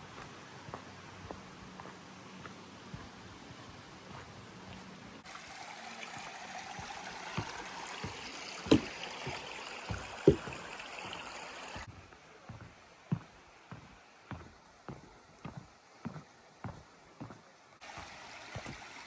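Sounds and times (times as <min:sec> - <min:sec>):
footsteps on a trail: 0:00.0 - 0:05.0, 0:06.1 - 0:18.9
stream running: 0:00.0 - 0:11.9, 0:12.5 - 0:19.0.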